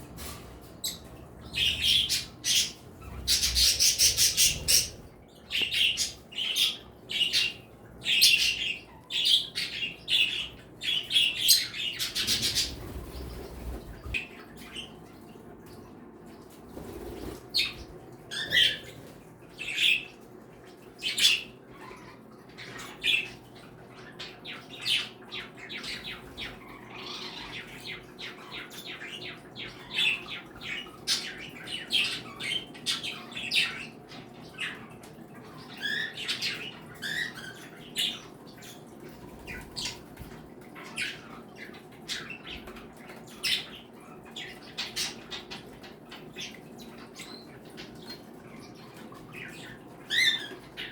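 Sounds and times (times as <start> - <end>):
cage birds chirping and squawking: 0.0 - 50.9.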